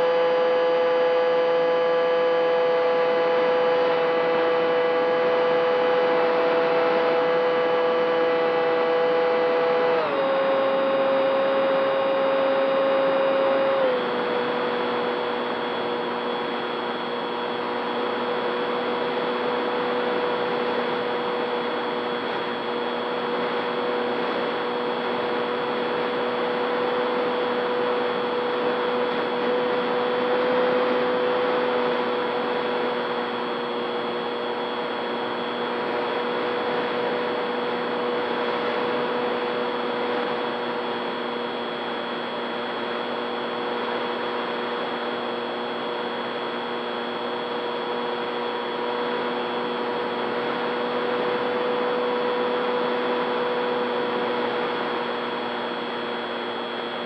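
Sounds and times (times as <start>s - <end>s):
model plane motor whining: 0.0s - 57.0s.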